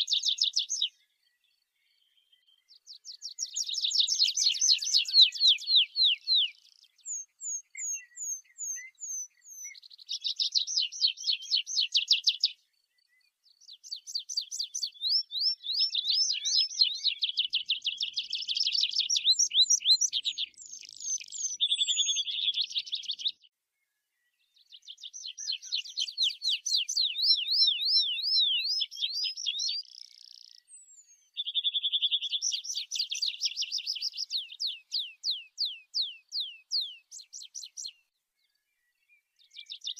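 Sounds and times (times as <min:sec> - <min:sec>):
bird singing trills: 0:00.0 - 0:23.5, 0:24.1 - 0:39.9.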